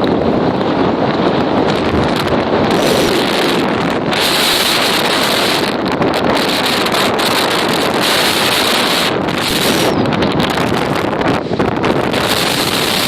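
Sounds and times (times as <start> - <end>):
heavy surf: 0.0 - 13.0
hurricane wind buffeting microphone: 0.0 - 13.0.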